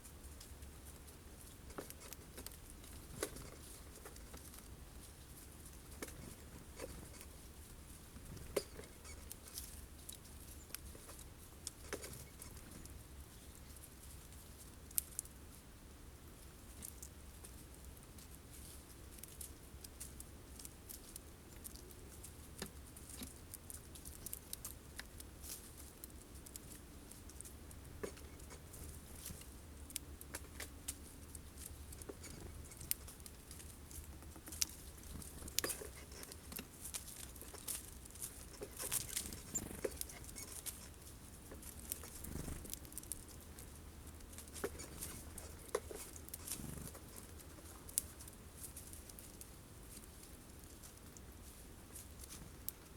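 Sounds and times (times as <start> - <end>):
birds pecking at seeds: 0.0 - 52.9.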